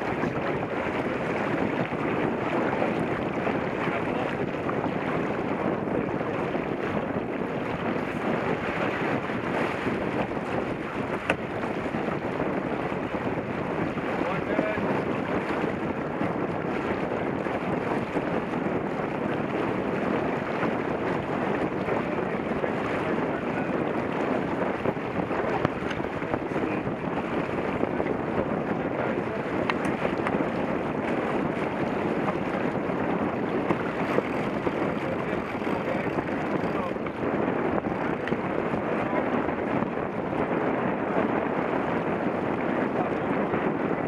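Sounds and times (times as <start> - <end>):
water rushing along a boat: 0.0 - 44.0
wind buffeting microphone: 0.0 - 44.0.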